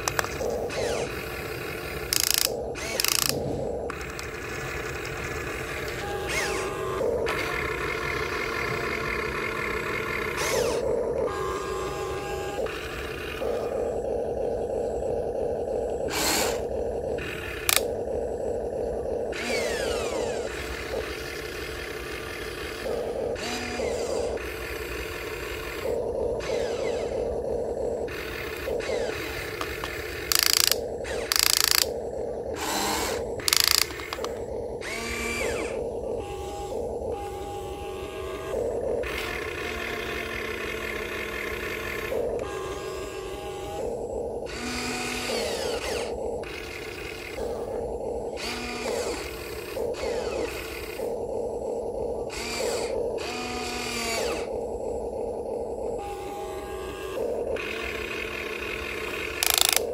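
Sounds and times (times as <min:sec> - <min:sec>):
loud motor bursts: 0:00.0 - 0:59.9
small electric motors whining: 0:00.0 - 0:59.9.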